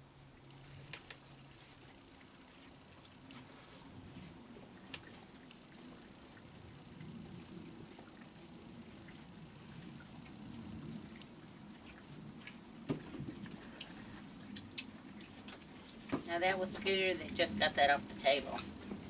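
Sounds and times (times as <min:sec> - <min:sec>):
animals chewing and munching: 0:00.0 - 0:19.0.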